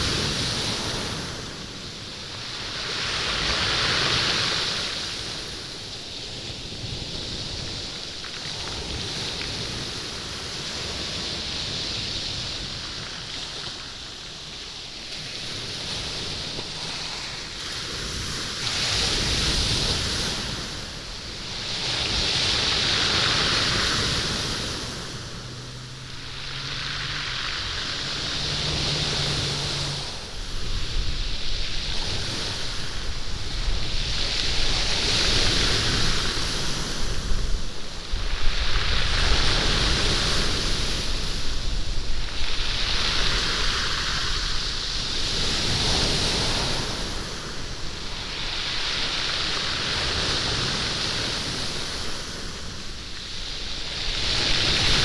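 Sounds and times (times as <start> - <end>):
waves on stony beach: 0.0 - 55.0.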